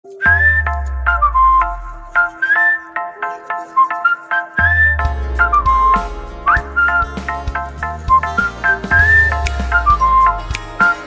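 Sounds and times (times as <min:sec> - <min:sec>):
plucked notes: 0:00.0 - 0:11.0
whistle-like melody: 0:00.1 - 0:11.0.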